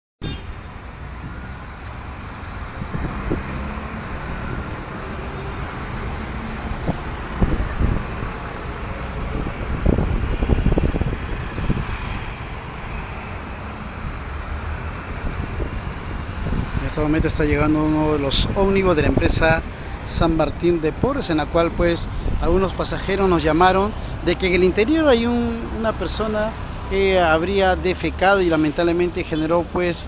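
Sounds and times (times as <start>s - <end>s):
street traffic noise: 0.2s - 30.0s.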